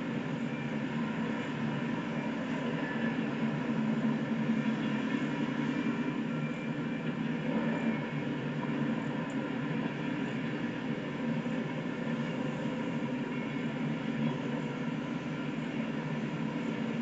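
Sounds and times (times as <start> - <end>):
train rumbling by: 0.0 - 17.0.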